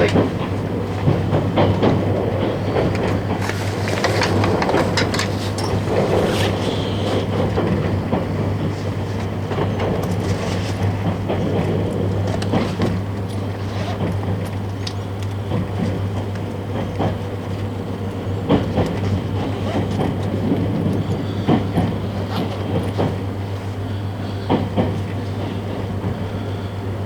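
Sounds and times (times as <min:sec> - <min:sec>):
wheels clicking on track: 0:00.0 - 0:26.6
train cabin hum and rumble: 0:00.0 - 0:27.0.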